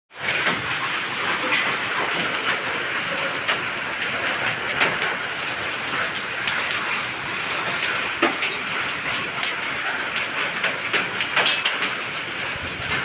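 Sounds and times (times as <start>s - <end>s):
heavy rain rushing: 0.1s - 13.0s.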